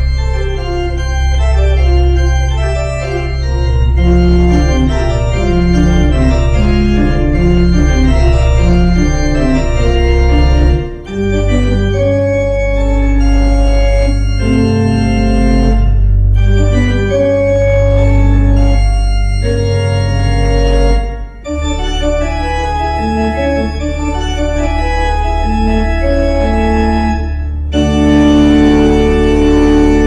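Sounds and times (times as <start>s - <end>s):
church organ playing chords: 0.0s - 30.0s.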